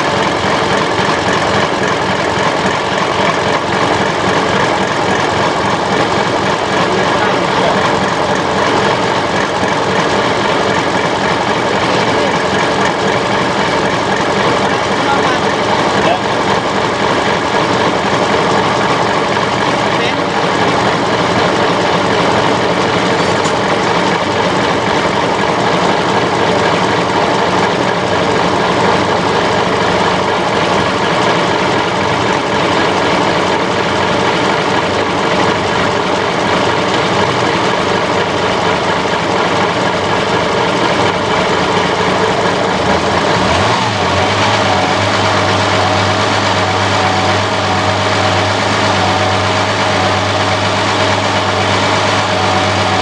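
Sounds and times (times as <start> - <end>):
marine engine running: 0.0 - 53.0.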